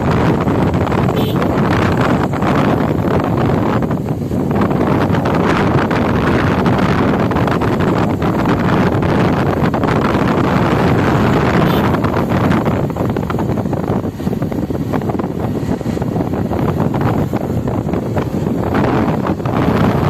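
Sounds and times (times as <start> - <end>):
road noise: 0.0 - 20.0
wind rushing over microphone: 0.0 - 20.0.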